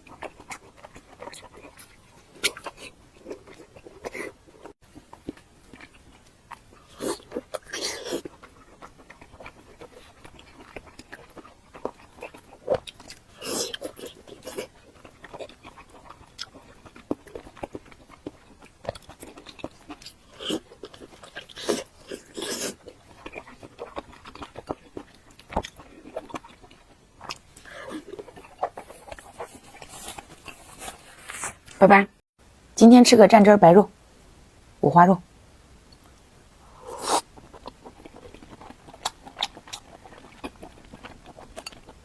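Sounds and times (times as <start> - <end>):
chewing pork: 0.0 - 31.5, 36.7 - 42.0.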